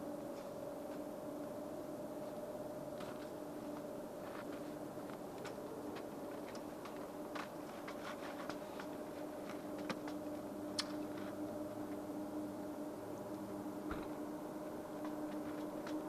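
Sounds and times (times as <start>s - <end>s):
distant jet engine hum: 0.0s - 16.0s.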